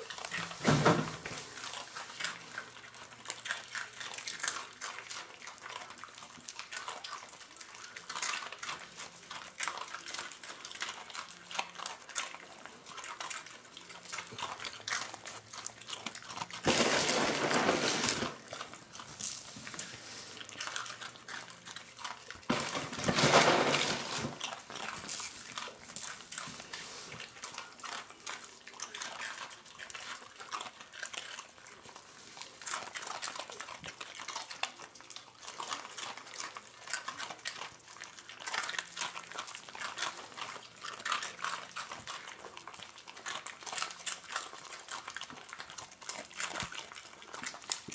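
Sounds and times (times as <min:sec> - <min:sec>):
dogs chewing crunchy food: 0:00.0 - 0:47.9.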